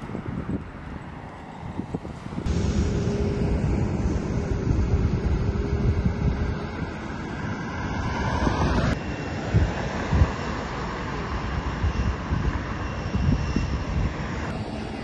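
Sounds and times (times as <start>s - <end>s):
wind buffeting microphone: 0.0s - 15.0s
jet engines running: 0.2s - 15.0s.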